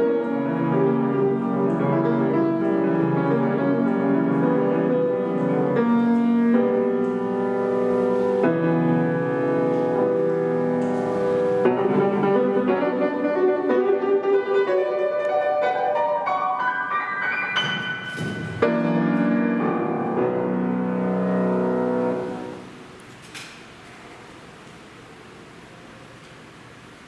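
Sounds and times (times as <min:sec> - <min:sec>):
solo piano playing classical music: 0:00.0 - 0:22.9.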